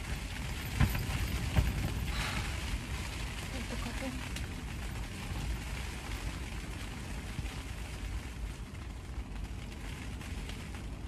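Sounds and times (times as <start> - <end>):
rain on car roof: 0.0 - 11.0.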